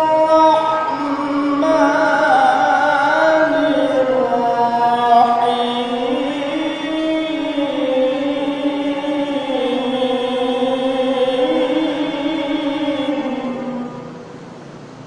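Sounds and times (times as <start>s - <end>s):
man reciting melodically: 0.0s - 14.5s.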